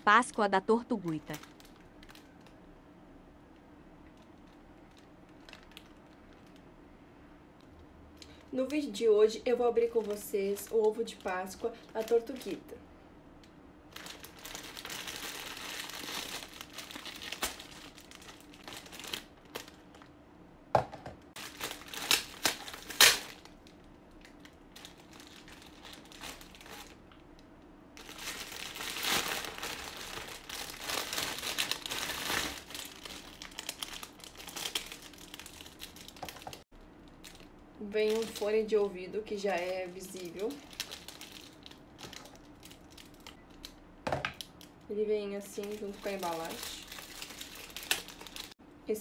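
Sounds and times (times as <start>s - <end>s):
cellophane wrap crinkling: 1.0s - 2.7s, 4.0s - 6.7s, 8.2s - 12.8s, 13.9s - 20.1s, 21.3s - 43.8s, 45.4s - 48.6s.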